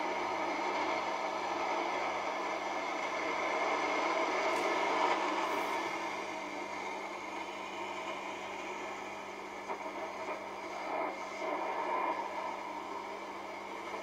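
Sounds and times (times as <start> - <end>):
shortwave radio static: 0.0 - 14.0.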